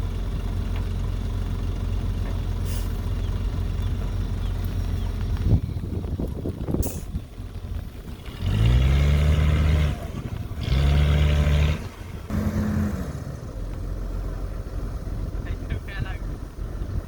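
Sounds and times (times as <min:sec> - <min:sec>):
excavator diesel engine revving: 0:00.0 - 0:17.0.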